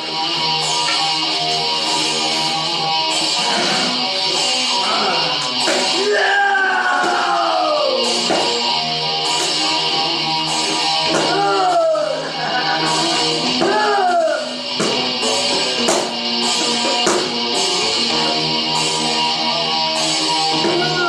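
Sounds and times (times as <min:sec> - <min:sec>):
guitar music with pitch bends: 0:00.0 - 0:21.0.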